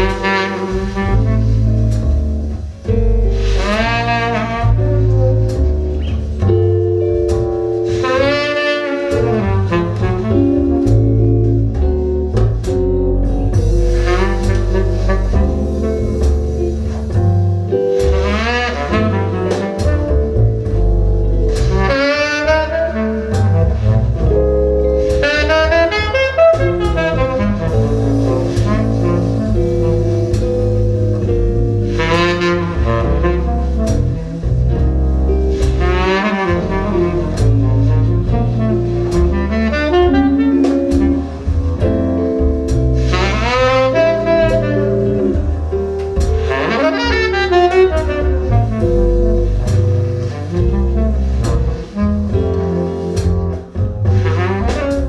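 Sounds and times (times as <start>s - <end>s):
double bass line: 0.0s - 55.0s
jazz saxophone playing: 0.0s - 55.0s.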